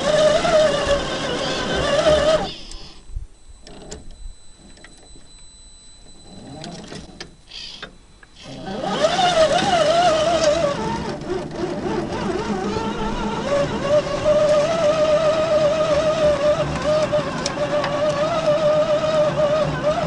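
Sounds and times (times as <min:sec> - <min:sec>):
electric motor whining: 0:00.0 - 0:04.8, 0:06.2 - 0:20.0.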